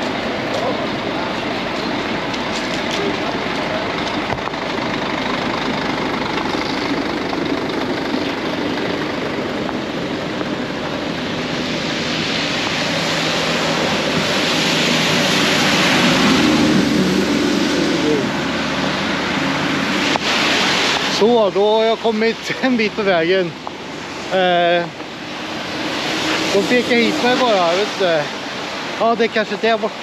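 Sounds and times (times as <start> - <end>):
tyres hissing on wet road: 0.0 - 30.0
vehicle engines running: 0.0 - 30.0.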